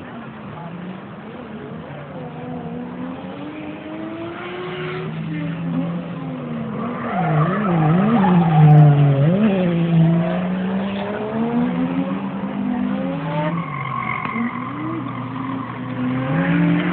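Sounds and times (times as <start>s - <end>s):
car engine revving: 0.6s - 16.9s.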